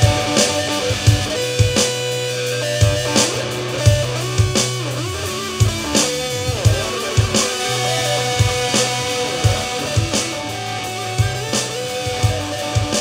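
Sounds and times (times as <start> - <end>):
drum kit steady beat: 0.0 - 13.0
electric guitar playing: 0.0 - 13.0
sustained bass notes: 0.0 - 13.0.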